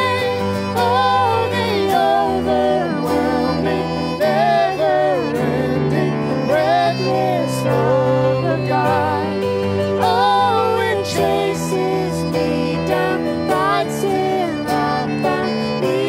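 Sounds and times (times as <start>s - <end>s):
acoustic guitar: 0.0s - 16.0s
keyboard: 0.0s - 16.0s
violin melody: 0.0s - 16.0s.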